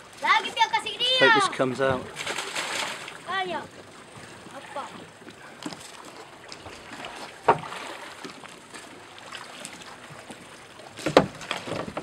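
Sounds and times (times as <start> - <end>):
water lapping around boat: 0.0 - 12.0.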